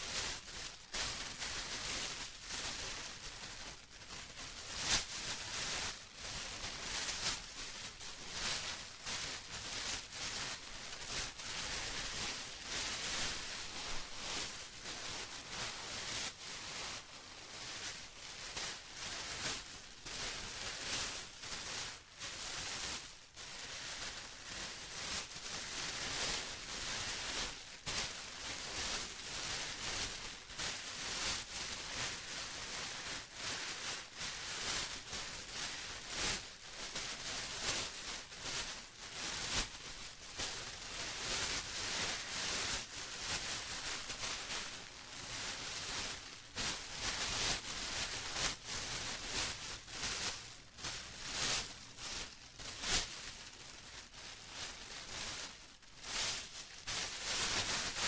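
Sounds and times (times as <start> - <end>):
plastic rustling and crinkling: 0.0 - 58.0.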